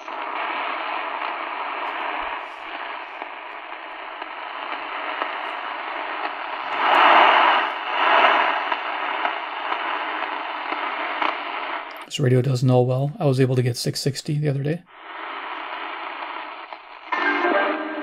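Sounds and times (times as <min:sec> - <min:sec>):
radio static and hiss: 0:00.0 - 0:18.0.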